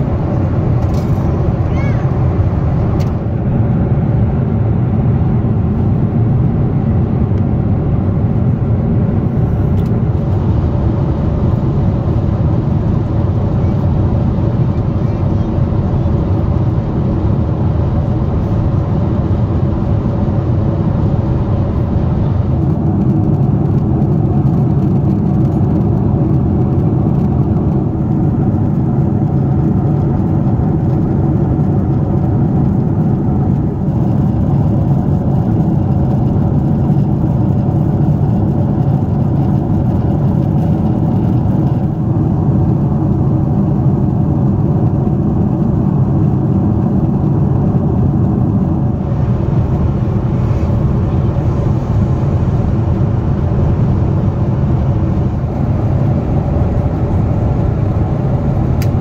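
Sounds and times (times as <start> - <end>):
airflow rushing in cabin: 0.0 - 59.0
jet engines droning: 0.0 - 59.0.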